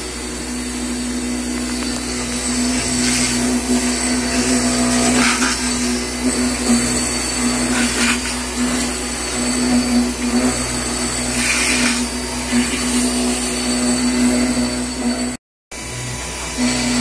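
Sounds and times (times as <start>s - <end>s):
router bit cutting wood: 0.0s - 17.0s
router spindle hum and hiss: 0.0s - 17.0s.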